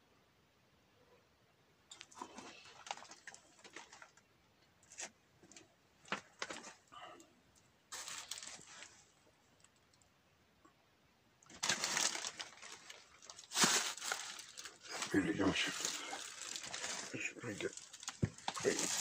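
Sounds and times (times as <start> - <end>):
rustling and scraping of handled objects: 1.9 - 10.0, 11.5 - 19.0.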